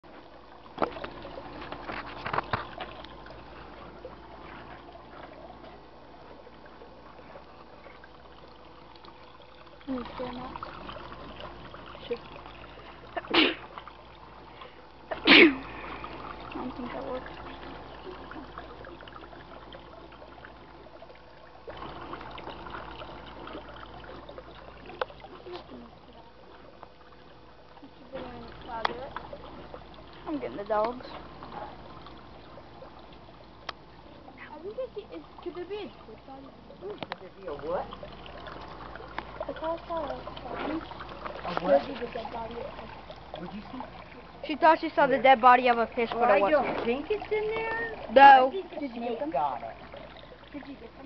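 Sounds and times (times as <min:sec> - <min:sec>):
stream water trickling: 0:00.0 - 0:51.0.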